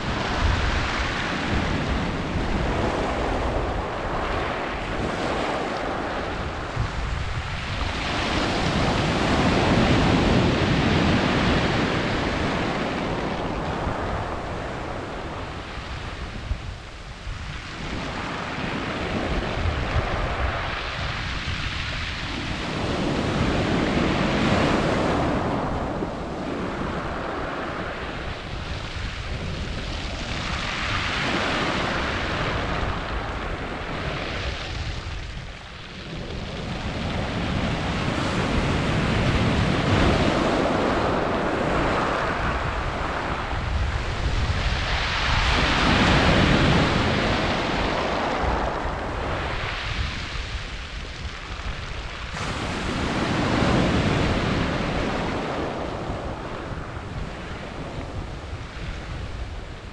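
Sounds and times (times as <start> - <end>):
waves washing on pebble beach: 0.0 - 59.9.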